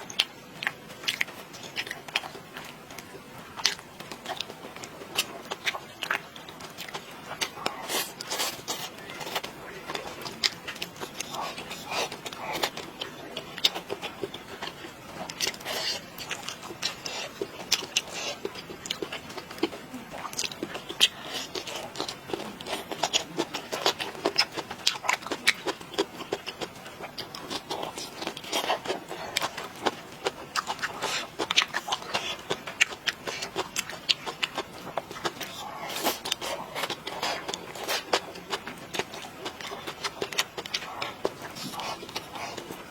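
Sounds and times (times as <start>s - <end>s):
chewing and mouth sounds: 0.0s - 42.9s.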